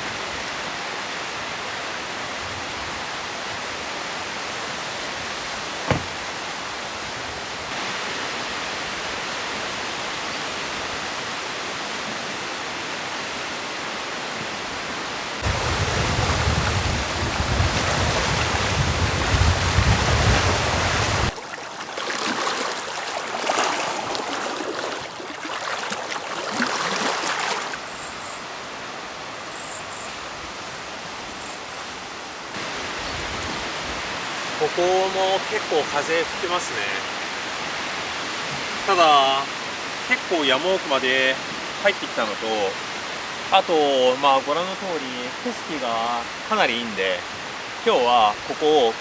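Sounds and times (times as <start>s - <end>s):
rushing water: 0.0s - 29.5s, 30.2s - 49.0s
wind: 0.0s - 49.0s.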